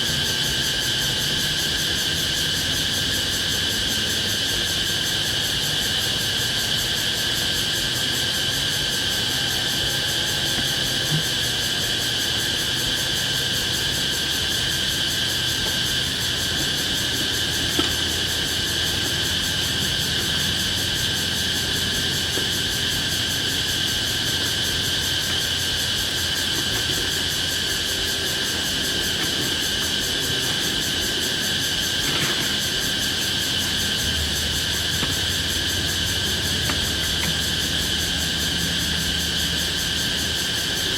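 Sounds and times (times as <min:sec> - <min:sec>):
forest insects droning: 0:00.0 - 0:40.9.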